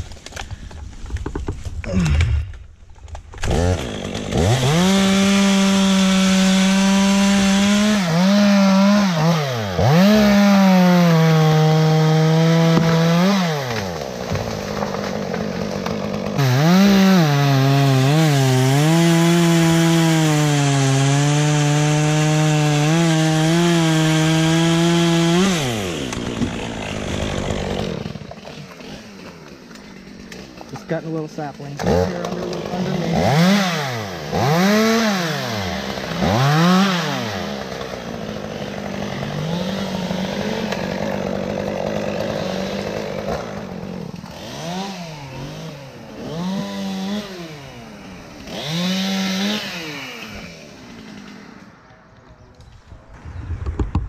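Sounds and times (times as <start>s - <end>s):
chainsaw cutting wood: 0.0s - 52.1s.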